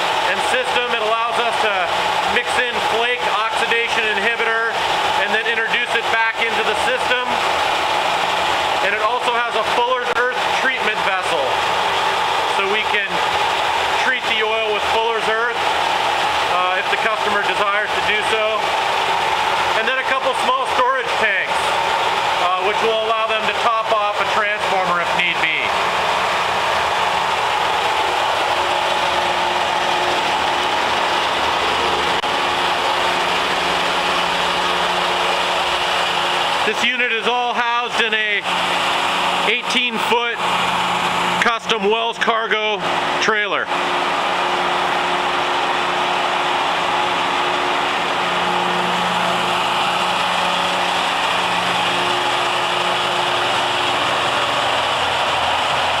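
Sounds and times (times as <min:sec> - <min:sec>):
machinery hum: 0:00.0 - 0:56.0
pumps and motors whirring: 0:00.0 - 0:56.0.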